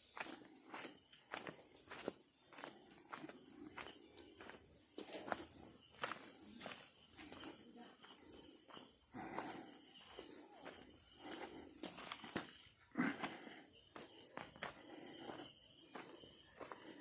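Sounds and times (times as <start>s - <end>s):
footsteps on rough ground: 0.0s - 17.0s
insects chirping in trills: 0.0s - 17.0s.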